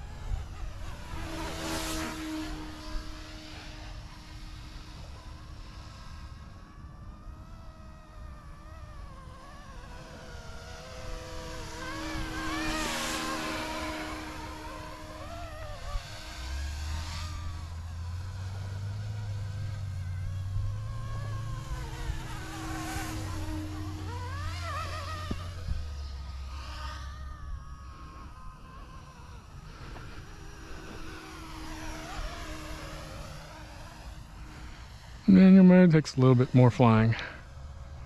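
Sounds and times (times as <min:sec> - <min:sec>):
rc helicopter motor whine: 0:00.0 - 0:38.0.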